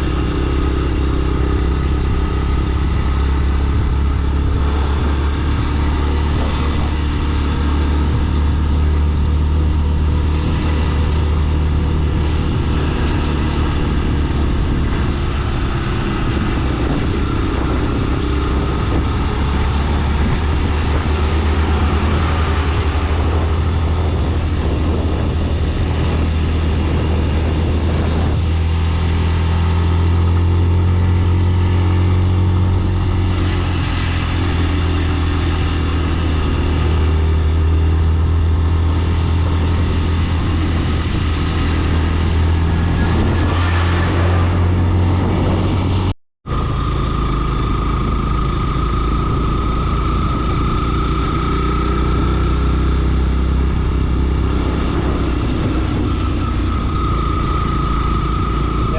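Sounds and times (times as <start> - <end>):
vehicle engine and road drone: 0.0 - 58.9.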